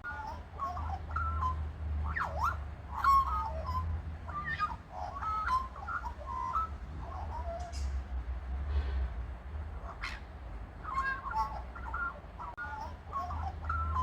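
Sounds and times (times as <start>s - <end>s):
magpie warbling: 0.0s - 7.9s, 9.8s - 14.0s.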